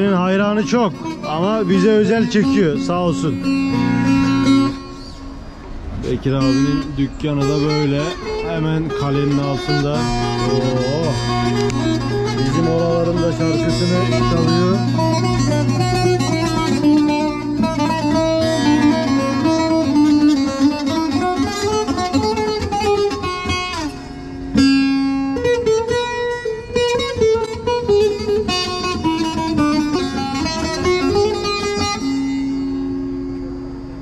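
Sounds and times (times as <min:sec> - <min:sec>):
electric saz folk melody: 0:00.0 - 0:34.0.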